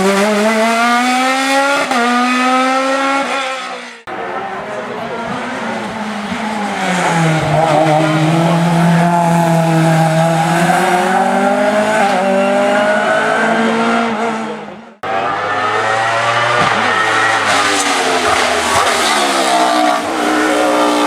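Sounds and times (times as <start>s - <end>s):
race car engine under load: 0.0s - 21.0s.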